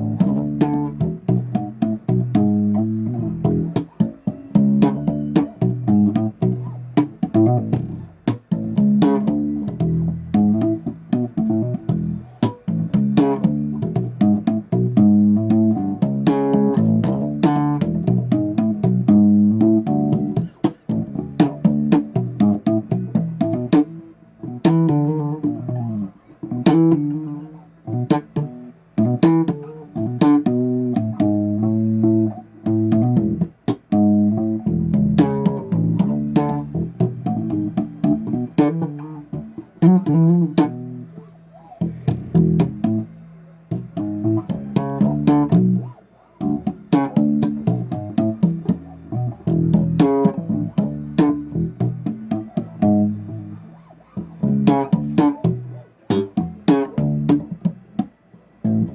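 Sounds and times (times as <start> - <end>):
solo bass guitar riffs: 0.0 - 58.9.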